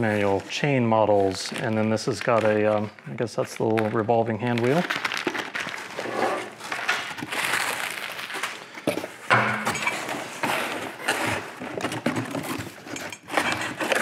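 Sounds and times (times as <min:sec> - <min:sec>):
cardboard box and bubble wrap rustling: 0:00.0 - 0:09.3, 0:10.0 - 0:14.0.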